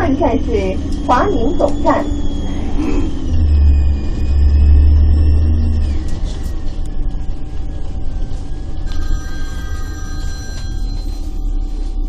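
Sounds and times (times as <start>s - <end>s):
bus engine rumble: 0.0s - 12.0s
high whine sliding in pitch: 0.0s - 12.0s.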